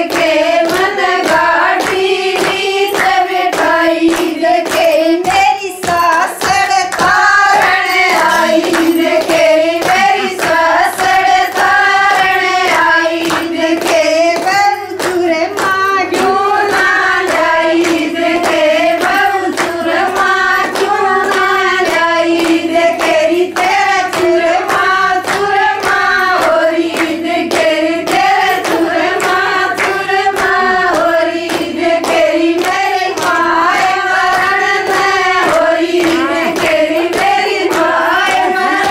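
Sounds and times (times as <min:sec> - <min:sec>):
rhythmic hand clapping: 0:00.0 - 0:38.9
women singing folk song: 0:00.0 - 0:38.9.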